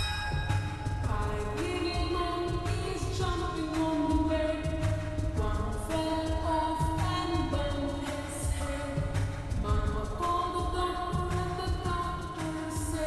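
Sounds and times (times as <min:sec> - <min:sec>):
backing track: 0:00.0 - 0:13.0.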